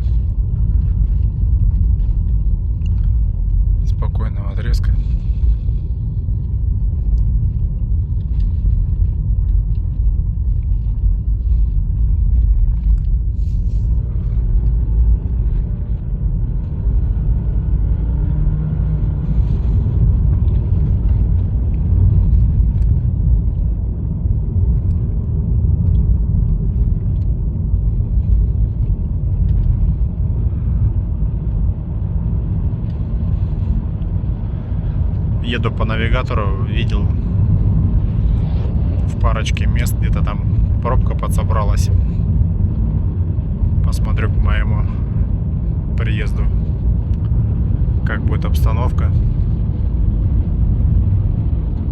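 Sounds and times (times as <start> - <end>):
car cabin road rumble: 0.0 - 51.9.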